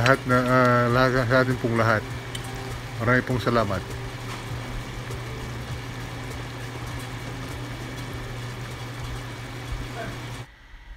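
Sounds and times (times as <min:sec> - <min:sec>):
broth bubbling: 0:00.0 - 0:10.5
constant low hum: 0:00.0 - 0:10.9.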